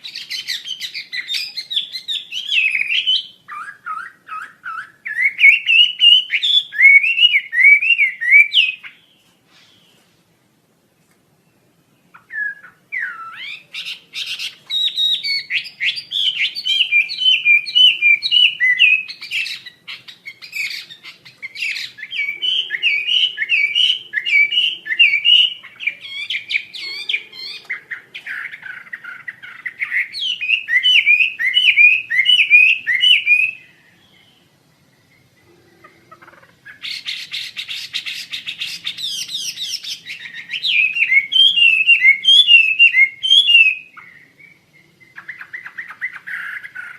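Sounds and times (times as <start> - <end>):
songbird chirping and twittering: 0.0 - 46.9.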